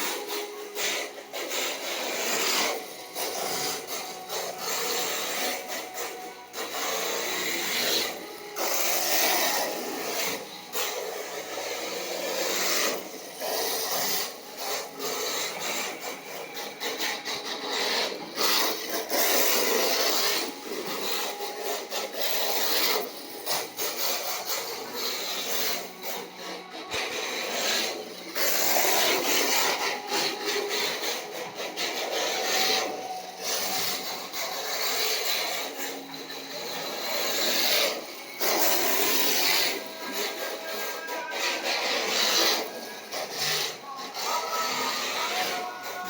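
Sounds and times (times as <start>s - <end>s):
toy car tyres scrubbing on floor: 0.0s - 46.0s.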